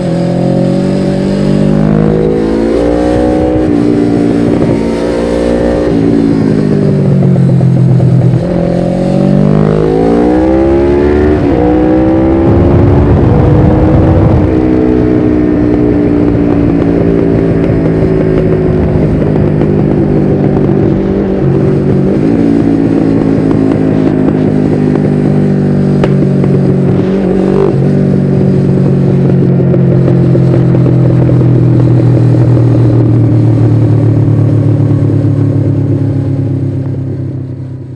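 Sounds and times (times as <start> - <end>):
motorcycle engine while riding: 0.0 - 37.9.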